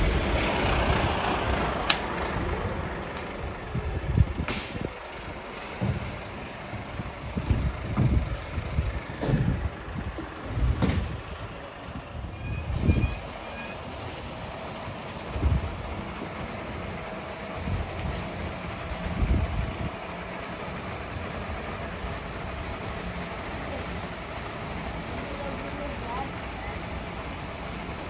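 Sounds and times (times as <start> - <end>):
truck diesel engine rumble: 0.0 - 28.0.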